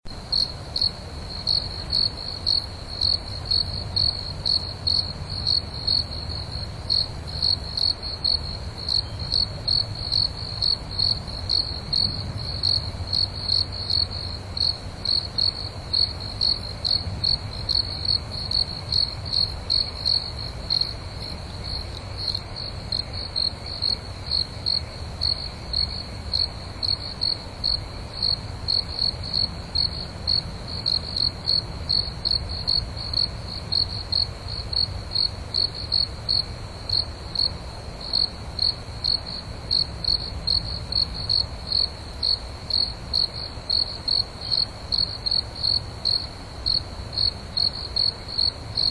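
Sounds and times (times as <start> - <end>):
cricket chirping: 0.1 - 48.9.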